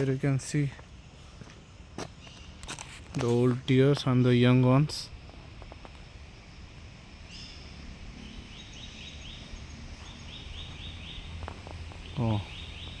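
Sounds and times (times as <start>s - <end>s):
faint outdoor noise: 0.0s - 13.0s.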